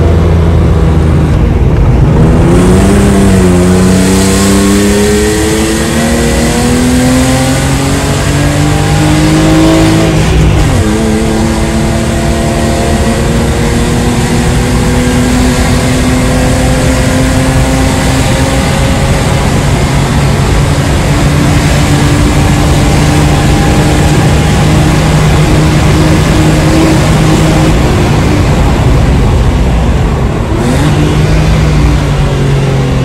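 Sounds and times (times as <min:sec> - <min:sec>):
car engine and exhaust: 0:00.0 - 0:33.0
road and wind noise: 0:00.0 - 0:33.0.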